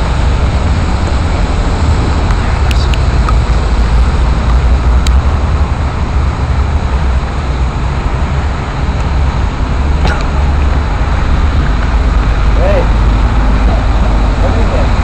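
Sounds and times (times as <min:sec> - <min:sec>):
deep low rumble: 0:00.0 - 0:15.0.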